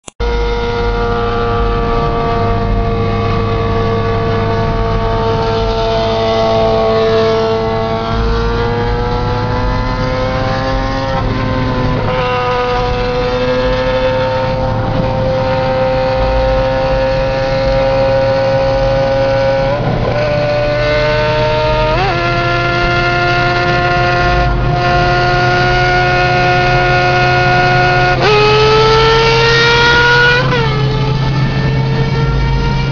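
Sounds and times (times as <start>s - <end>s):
vehicle engine through exhaust: 0.2s - 32.9s.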